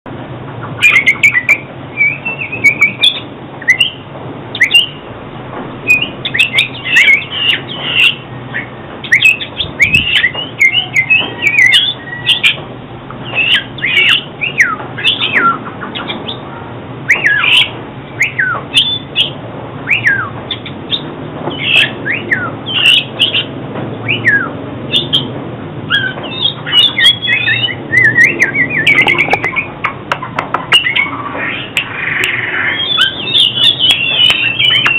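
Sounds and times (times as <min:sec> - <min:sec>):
bird singing whistled notes: 0:00.8 - 0:05.0, 0:05.8 - 0:12.6, 0:13.2 - 0:16.4, 0:17.1 - 0:25.3, 0:25.9 - 0:29.7, 0:30.7 - 0:34.9.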